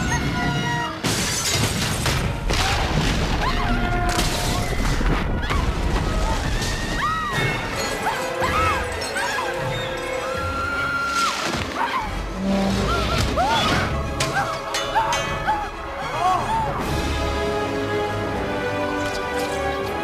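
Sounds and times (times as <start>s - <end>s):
film soundtrack music: 0.0s - 20.0s.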